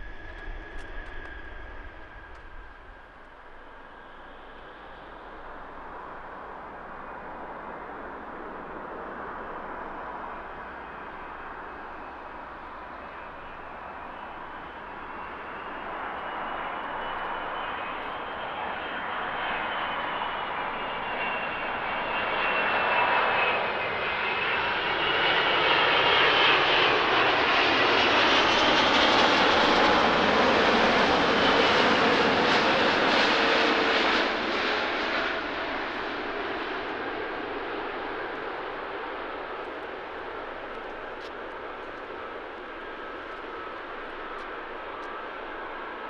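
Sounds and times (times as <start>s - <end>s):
jet engines rumble and whine: 0.0s - 46.0s.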